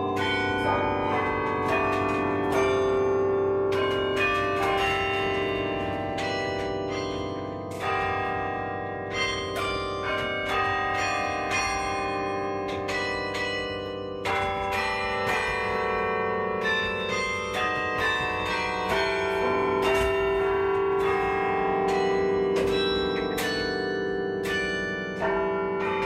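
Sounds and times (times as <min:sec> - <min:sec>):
carillon bells playing a tune: 0:00.0 - 0:26.0.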